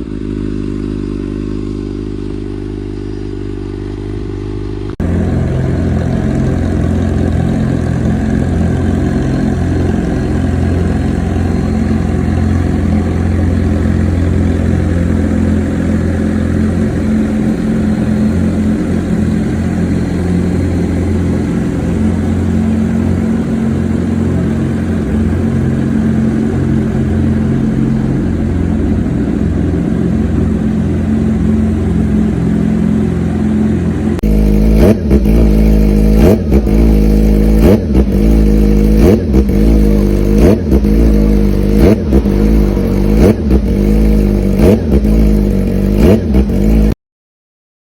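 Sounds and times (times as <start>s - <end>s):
motorcycle engine idling: 0.0s - 47.0s.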